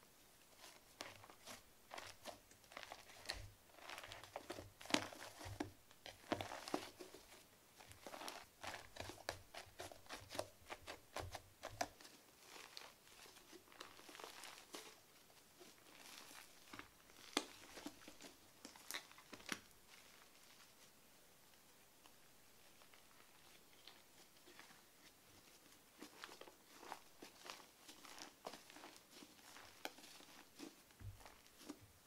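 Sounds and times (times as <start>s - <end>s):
slime crackling and squishing: 0.5s - 21.0s, 22.6s - 32.0s.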